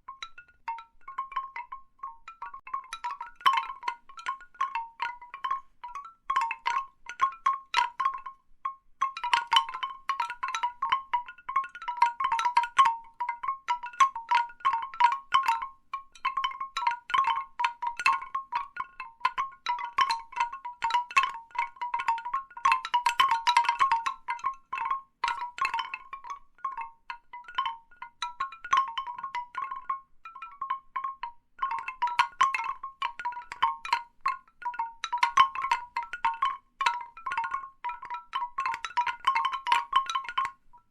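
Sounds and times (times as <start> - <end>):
bamboo wind chimes knocking: 0.0 - 40.9.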